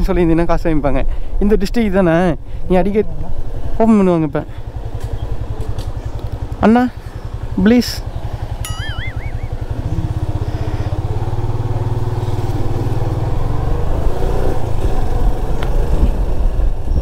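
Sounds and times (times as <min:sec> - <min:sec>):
road and wind noise: 0:00.0 - 0:17.0
motorcycle engine running: 0:02.5 - 0:17.0.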